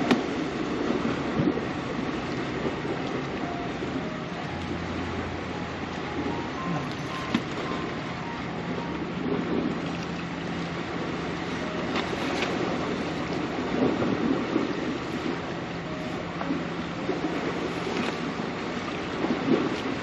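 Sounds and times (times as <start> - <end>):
sea waves washing: 0.0 - 20.0
steady low hum: 0.0 - 20.0
wind buffeting microphone: 0.0 - 20.0.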